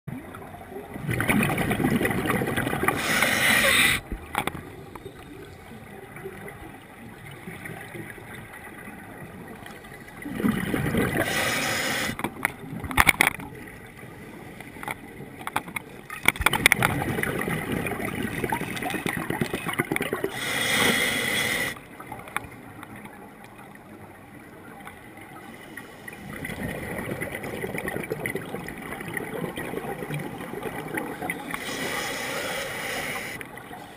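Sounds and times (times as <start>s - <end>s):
exhaled bubbles gurgling underwater: 0.1s - 33.9s.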